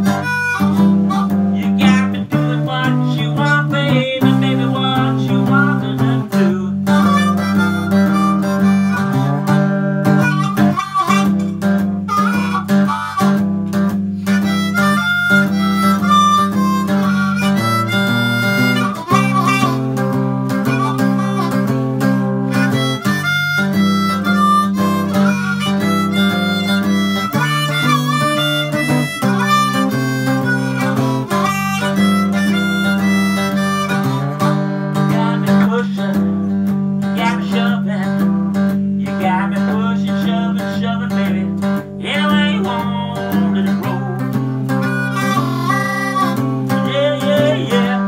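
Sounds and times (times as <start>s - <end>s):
acoustic guitar picking low riff: 0.0s - 48.0s
harmonica with bending notes: 0.0s - 48.0s.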